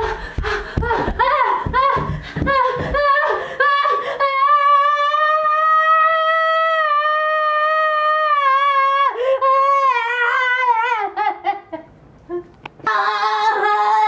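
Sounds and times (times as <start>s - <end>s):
woman's panicked cries: 0.0s - 14.0s.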